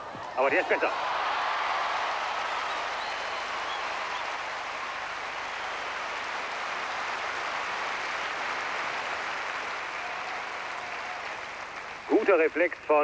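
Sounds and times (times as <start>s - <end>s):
crowd clapping: 0.5s - 12.8s.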